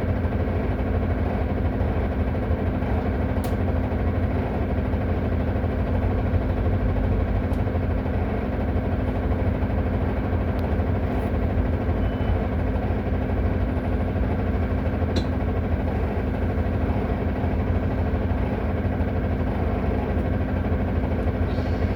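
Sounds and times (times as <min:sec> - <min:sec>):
bus engine idling: 0:00.0 - 0:21.9
loud steady rattle: 0:00.0 - 0:21.9.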